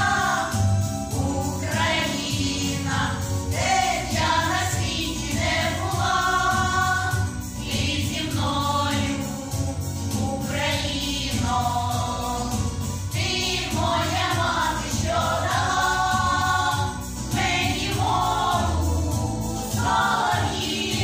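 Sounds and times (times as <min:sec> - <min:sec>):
women's folk choir singing: 0:00.0 - 0:21.0.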